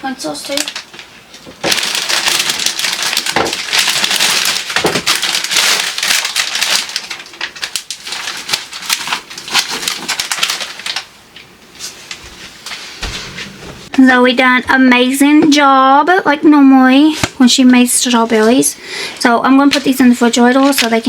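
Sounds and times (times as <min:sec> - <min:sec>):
crinkly material crackling: 0:00.0 - 0:13.0, 0:17.1 - 0:21.0.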